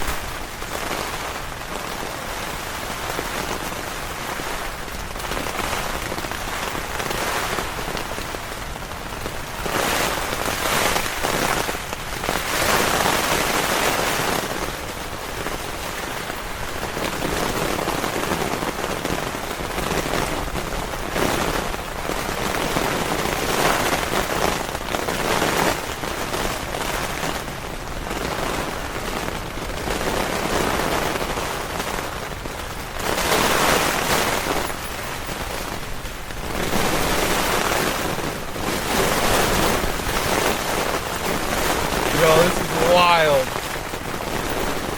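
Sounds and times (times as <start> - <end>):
heavy rain on a tent: 0.0 - 44.9.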